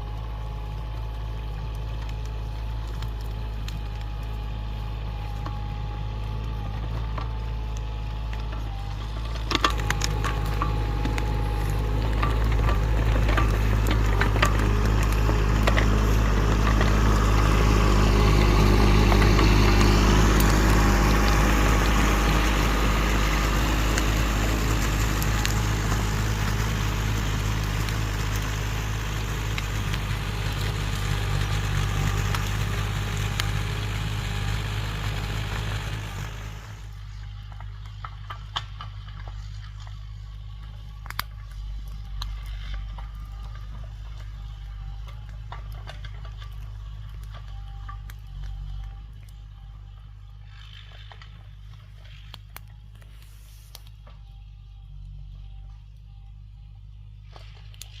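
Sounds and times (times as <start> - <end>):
engine running under load: 0.0 - 58.0
sharp cracks and snaps: 0.5 - 34.6, 37.1 - 49.4, 50.5 - 54.2, 57.2 - 58.0.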